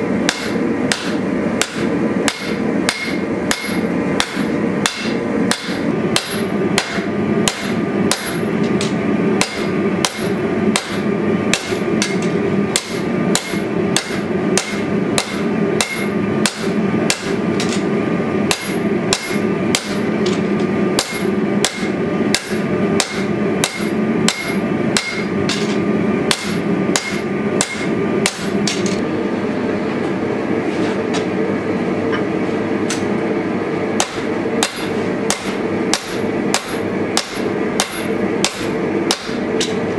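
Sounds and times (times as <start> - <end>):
hammer striking metal on anvil: 0.2 - 17.9, 18.5 - 20.4, 21.0 - 29.0, 34.0 - 39.8.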